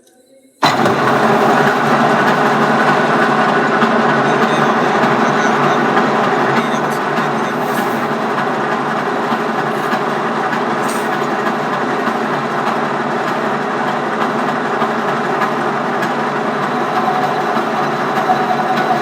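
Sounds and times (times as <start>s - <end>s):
lathe running with mechanical hum: 0.6s - 19.0s.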